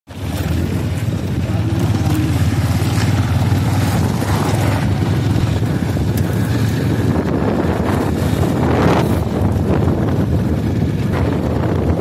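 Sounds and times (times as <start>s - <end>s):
low engine rumble: 0.1s - 12.0s
wind buffeting microphone: 0.1s - 12.0s.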